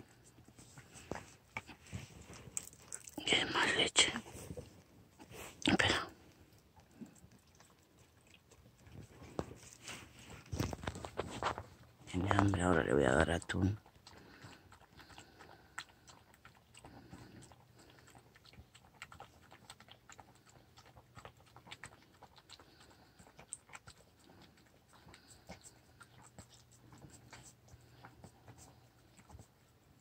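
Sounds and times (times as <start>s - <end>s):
dog eating from a bowl: 0.0s - 30.0s.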